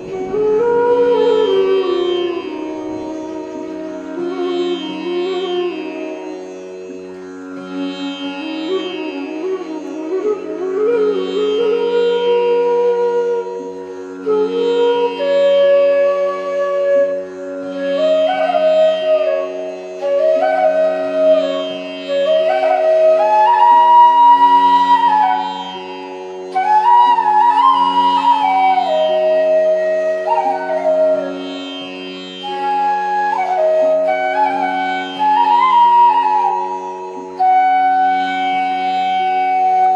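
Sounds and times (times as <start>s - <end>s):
flute melody over drone: 0.0s - 39.9s.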